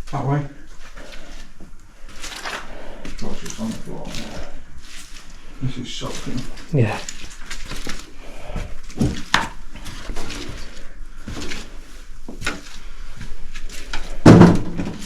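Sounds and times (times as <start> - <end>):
footsteps on littered floor: 0.0 - 15.0.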